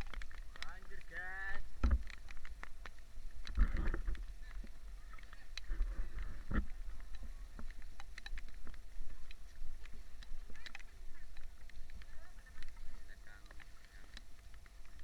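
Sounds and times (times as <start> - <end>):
raindrops ticking on hard surfaces: 0.0 - 15.0.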